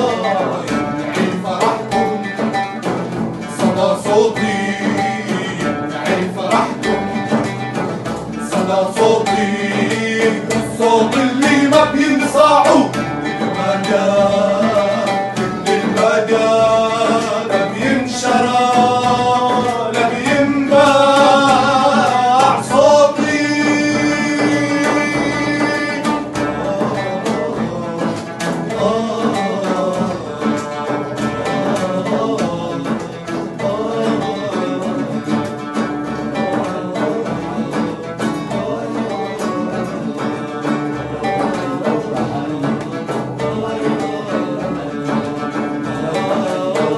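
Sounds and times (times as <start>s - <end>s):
classical guitar: 0.0s - 46.9s
frame drum: 0.0s - 46.9s
men singing: 0.0s - 46.9s
oud: 0.0s - 46.9s.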